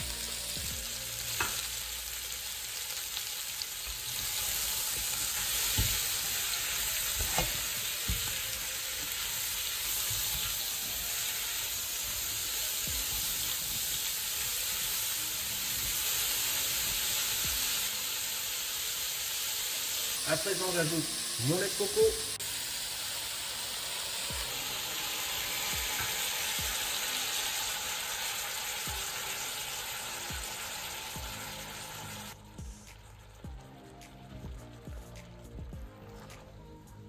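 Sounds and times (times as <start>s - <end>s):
vegetables sizzling in oil: 0.0s - 33.4s.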